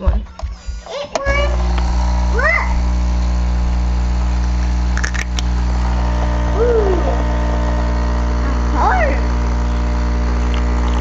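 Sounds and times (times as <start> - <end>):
coffee machine pump humming: 0.6 - 11.0.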